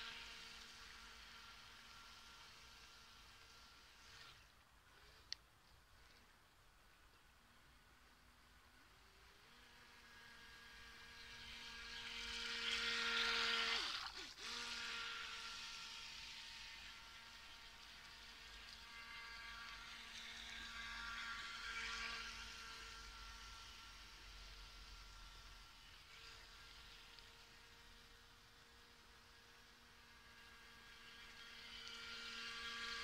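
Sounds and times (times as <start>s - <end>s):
toy boat motor whine: 0.0s - 5.4s, 7.6s - 33.0s.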